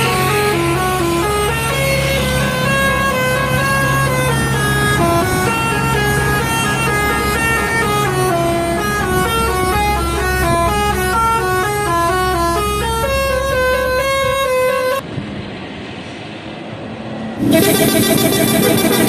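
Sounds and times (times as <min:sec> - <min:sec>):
bus horn playing tune: 0:00.0 - 0:15.0, 0:17.4 - 0:19.0
bus engine hum: 0:00.0 - 0:19.0
road noise: 0:00.0 - 0:19.0.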